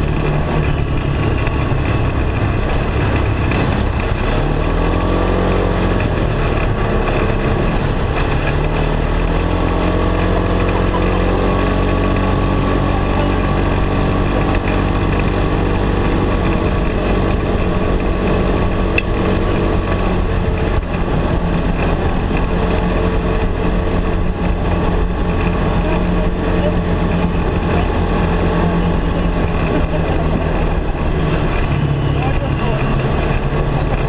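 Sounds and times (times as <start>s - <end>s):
road noise: 0.0s - 34.0s
vehicle engine running: 0.0s - 34.0s
wind noise: 0.0s - 34.0s.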